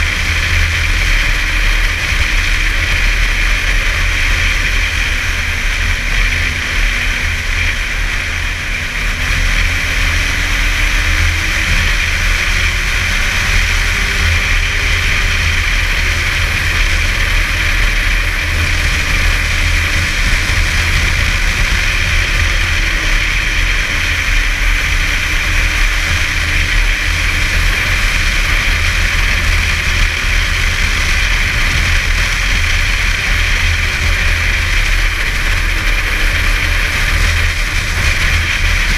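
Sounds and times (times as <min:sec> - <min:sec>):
snowmobile engine running: 0:00.0 - 0:38.9
wind noise on microphone: 0:00.0 - 0:38.9.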